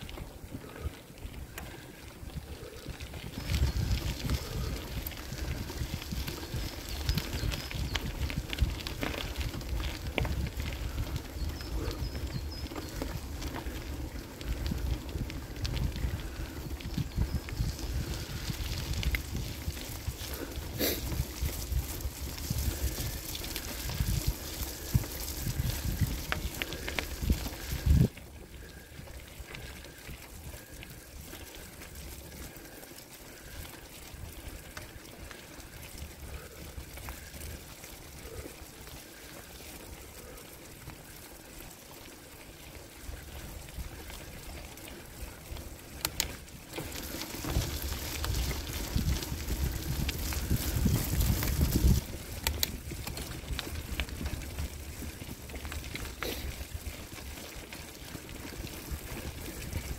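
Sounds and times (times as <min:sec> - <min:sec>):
bicycle riding on dirt road: 0:00.0 - 0:59.9.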